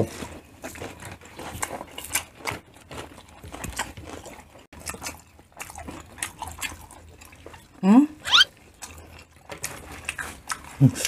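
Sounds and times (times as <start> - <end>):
close chewing with mouth smacks: 0.0 - 11.0.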